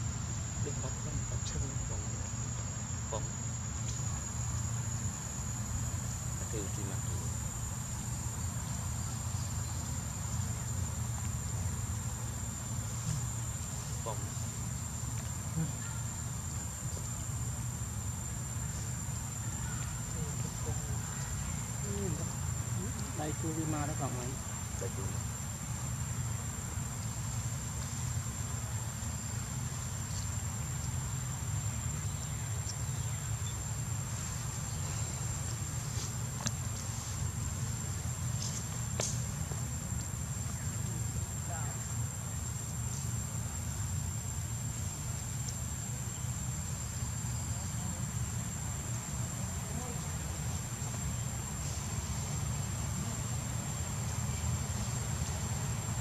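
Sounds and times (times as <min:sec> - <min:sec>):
insects shrilling: 0:00.0 - 0:56.0.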